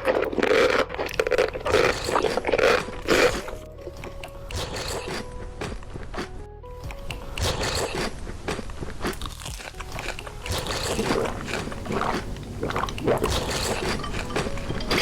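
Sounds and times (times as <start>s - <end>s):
crunchy bites and chewing: 0.0s - 15.0s.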